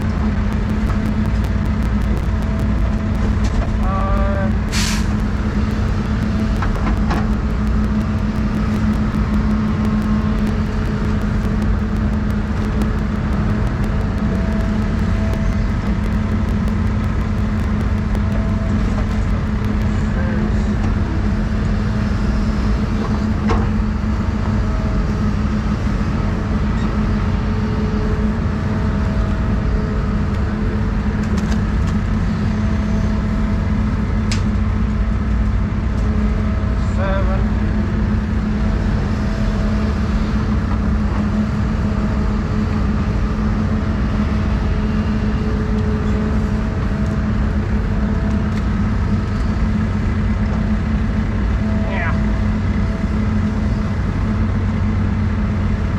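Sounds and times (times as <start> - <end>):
excavator diesel engine droning: 0.0 - 55.9.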